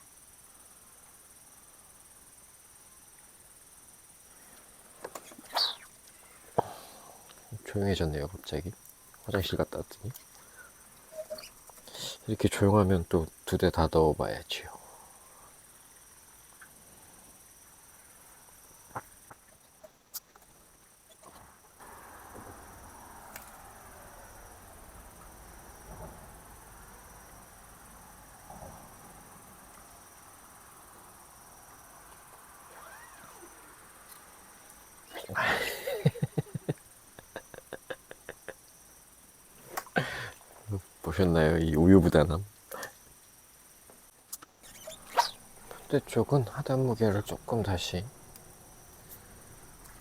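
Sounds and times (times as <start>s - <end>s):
crickets and insects chirping: 0.0s - 50.0s.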